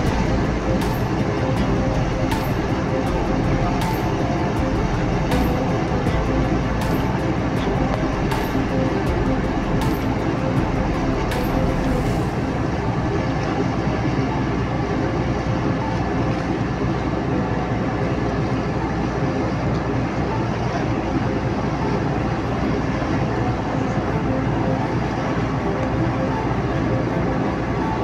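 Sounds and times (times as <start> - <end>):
marine engines running: 0.0 - 28.0
water churning against hull: 0.0 - 28.0.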